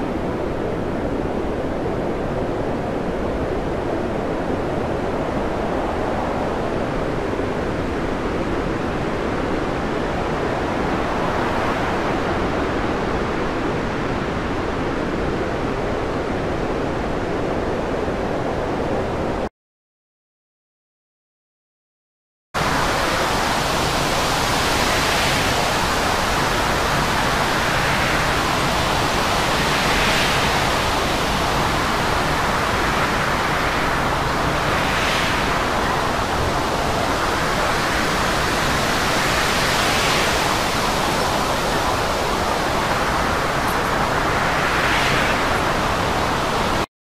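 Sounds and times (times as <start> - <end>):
storm wind: 0.0 - 19.5, 22.6 - 46.9.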